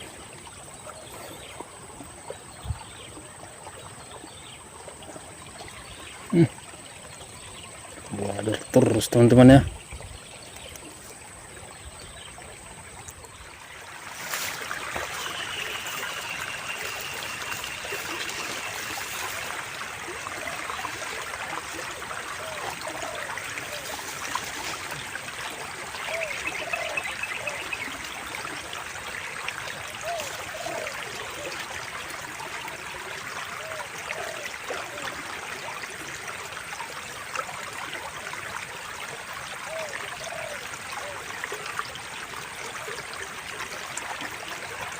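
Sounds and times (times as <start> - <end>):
stream water trickling: 0.0 - 44.9.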